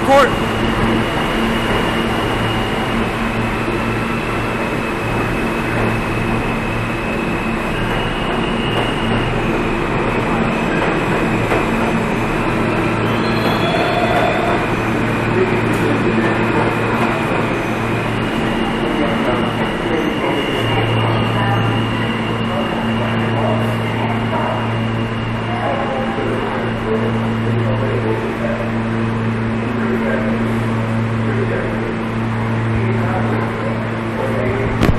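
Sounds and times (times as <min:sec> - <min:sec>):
subway train motor and wheels: 0:00.0 - 0:34.9.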